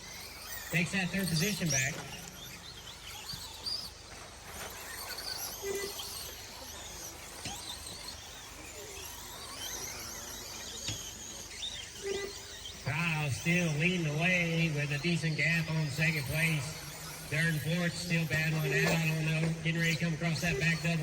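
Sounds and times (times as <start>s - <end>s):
rc truck motors whining: 0.0s - 21.0s
steady background hum: 0.0s - 21.0s.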